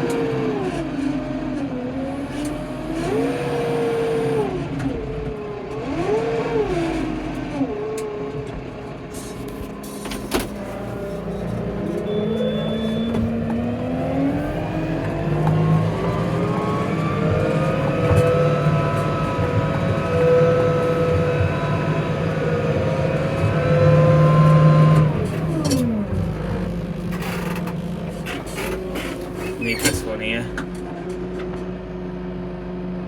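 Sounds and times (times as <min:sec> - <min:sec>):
tractor engine revving: 0:00.0 - 0:33.0.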